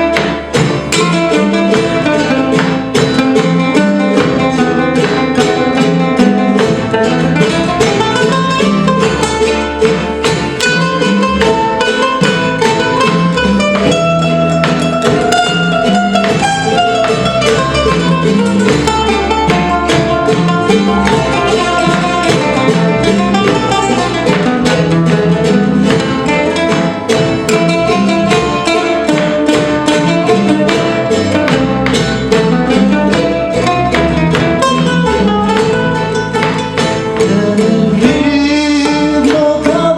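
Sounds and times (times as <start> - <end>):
bass line: 0.0 - 39.9
plucked guitar melody: 0.0 - 39.9
strummed guitars fast rhythm: 0.0 - 39.9.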